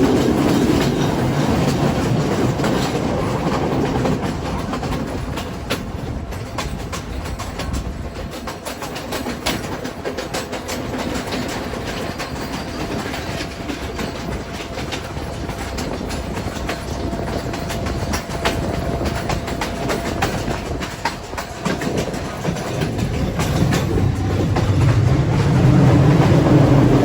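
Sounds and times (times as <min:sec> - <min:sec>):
train rumble: 0:00.0 - 0:27.0
train wheels clattering on rails: 0:00.0 - 0:27.0.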